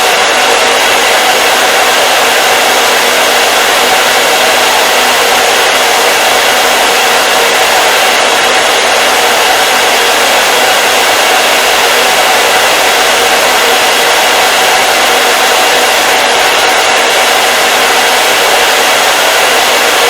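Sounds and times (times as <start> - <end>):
hair dryer blowing: 0.0 - 20.0.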